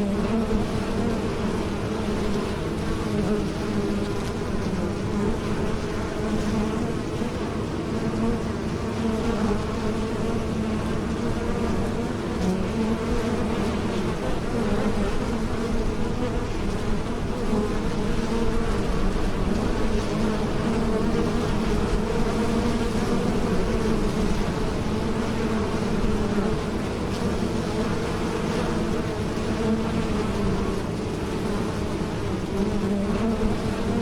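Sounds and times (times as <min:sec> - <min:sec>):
bees buzzing: 0:00.0 - 0:34.0.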